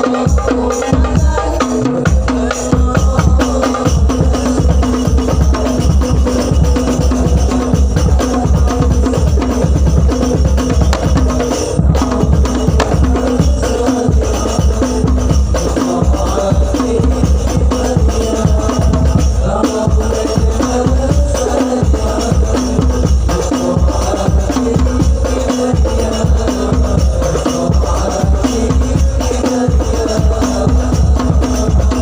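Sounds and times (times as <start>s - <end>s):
drum and tambourine percussion: 0.0s - 32.0s.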